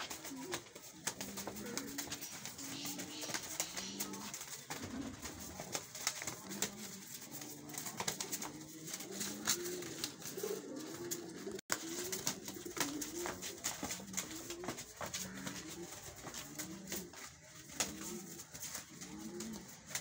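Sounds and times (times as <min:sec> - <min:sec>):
pigeons cooing: 0:00.0 - 0:20.0
wing flutters: 0:00.0 - 0:20.0.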